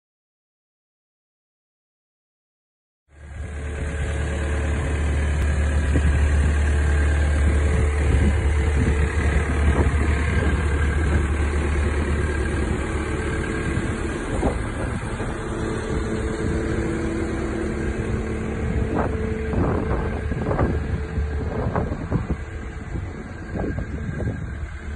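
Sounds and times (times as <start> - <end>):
diesel engine idling: 3.1 - 24.9.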